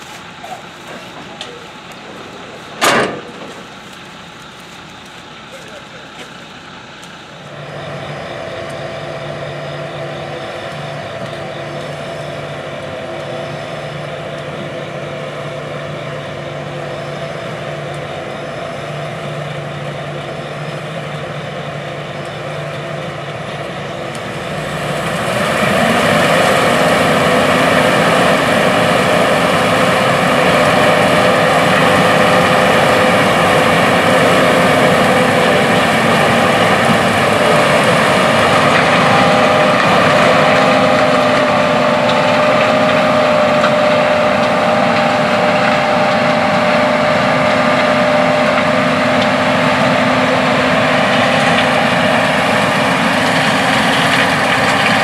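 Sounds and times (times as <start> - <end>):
combine harvester diesel engines: 0.0 - 55.0.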